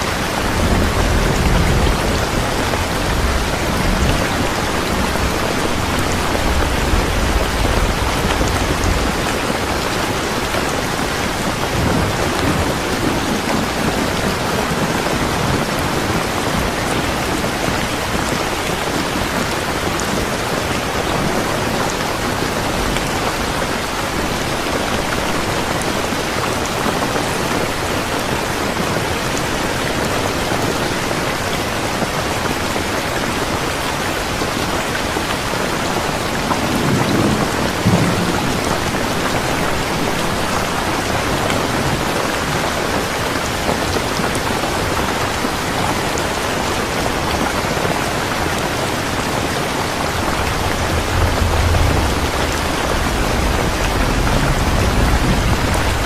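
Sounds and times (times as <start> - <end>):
heavy rainfall: 0.0 - 56.0.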